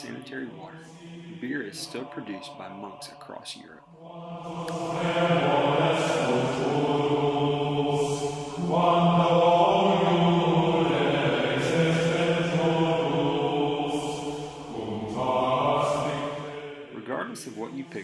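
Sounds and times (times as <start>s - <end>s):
chanting voices over low drone: 0.0s - 18.0s.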